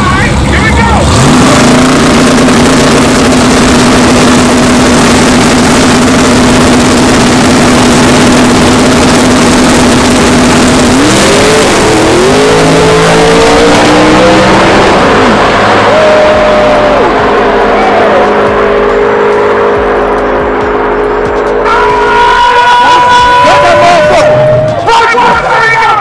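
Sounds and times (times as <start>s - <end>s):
drag racing engines revving: 0.0s - 26.0s.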